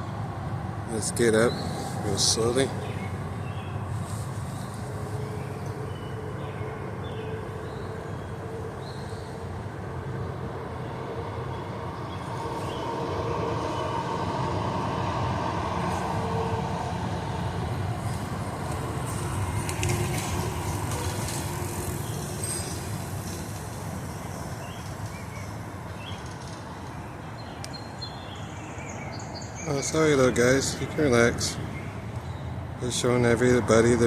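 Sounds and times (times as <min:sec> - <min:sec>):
passing vehicle rumble: 0:00.0 - 0:34.0.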